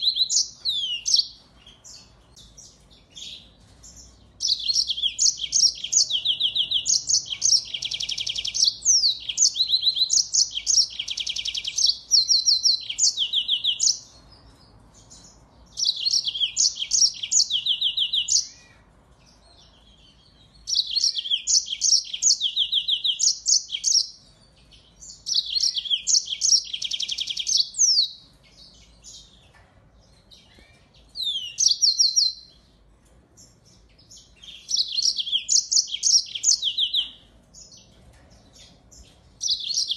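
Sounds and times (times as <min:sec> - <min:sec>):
songbird trills and chirps: 0:00.0 - 0:39.9.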